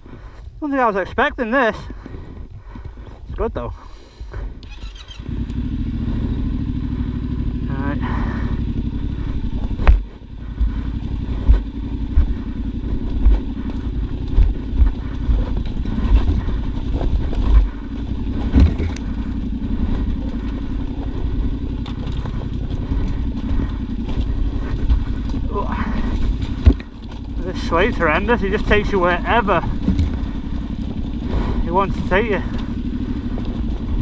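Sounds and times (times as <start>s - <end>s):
motorcycle engine running: 0.0s - 34.0s
thuds and clatter over rough ground: 0.0s - 34.0s.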